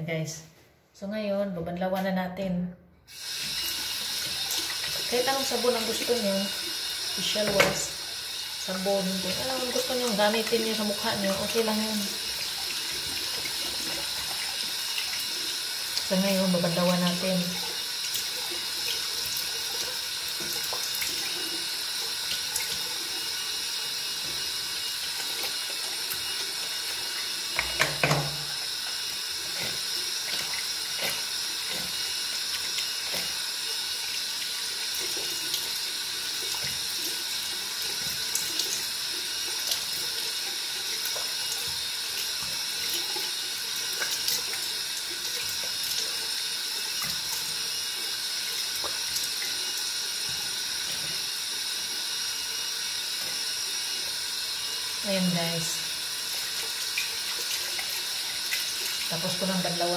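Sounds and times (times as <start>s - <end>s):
tap water running: 3.1s - 59.9s.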